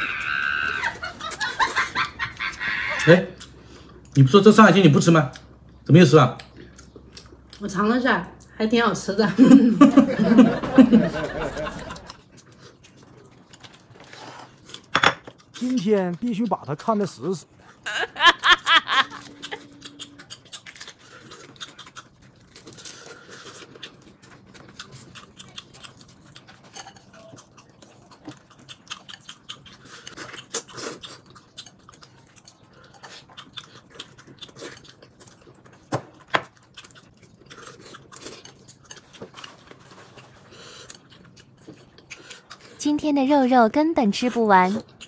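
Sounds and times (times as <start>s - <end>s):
chewing and lip-smacking: 0.0s - 4.2s, 5.3s - 8.5s, 11.8s - 17.8s, 19.0s - 43.0s, 44.0s - 45.0s.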